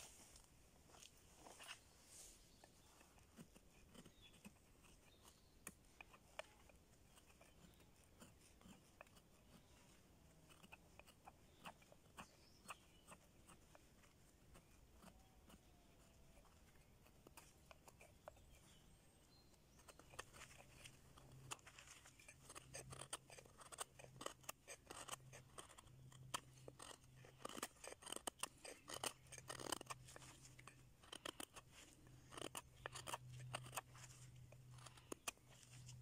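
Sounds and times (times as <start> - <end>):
knife shaving wood: 1.2 - 36.0.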